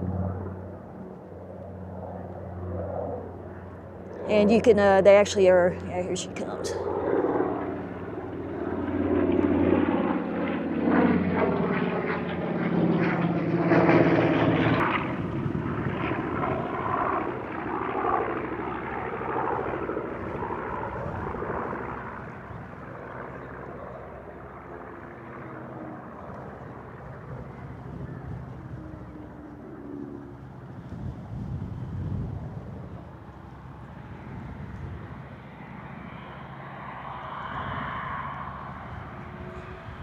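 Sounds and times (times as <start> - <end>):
propeller plane engines droning: 0.0 - 40.0.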